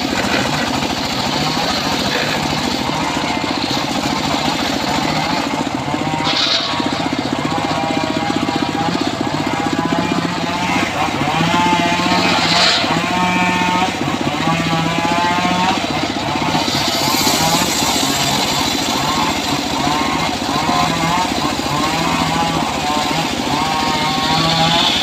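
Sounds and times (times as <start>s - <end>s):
saw blade whine: 0.0s - 25.0s
sawmill engine running: 0.0s - 25.0s.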